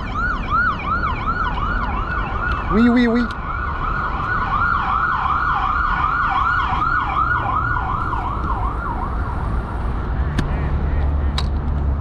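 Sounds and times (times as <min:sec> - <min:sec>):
emergency siren yelping: 0:00.0 - 0:10.2.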